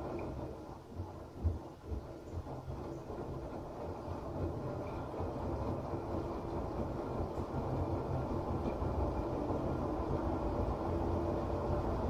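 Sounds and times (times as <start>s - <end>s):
washing machine drum rumbling: 0.0s - 12.0s.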